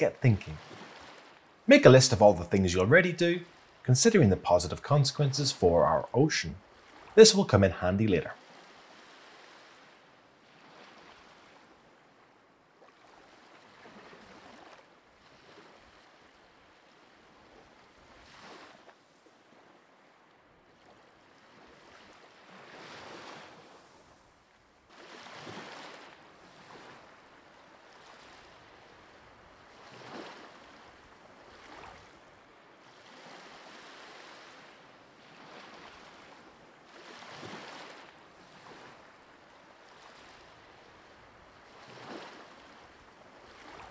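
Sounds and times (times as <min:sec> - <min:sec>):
faint sea surf: 0:00.0 - 0:43.9.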